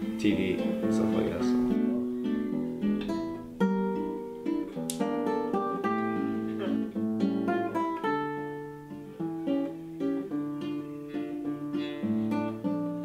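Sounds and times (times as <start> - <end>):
classical guitar plucking: 0.0 - 13.0.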